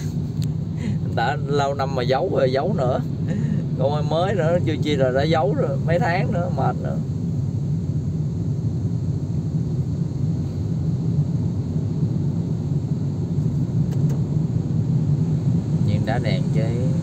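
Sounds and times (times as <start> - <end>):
car engine rumble: 0.0 - 17.0
road noise inside car: 0.0 - 17.0.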